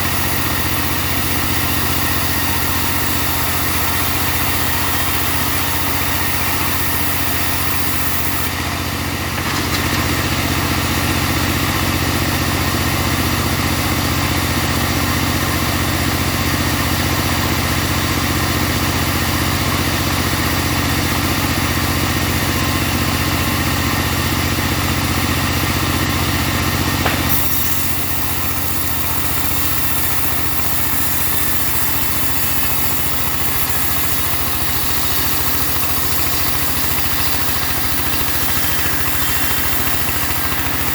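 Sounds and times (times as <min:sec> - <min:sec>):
bandsaw sawmill cutting log: 0:00.0 - 0:40.9.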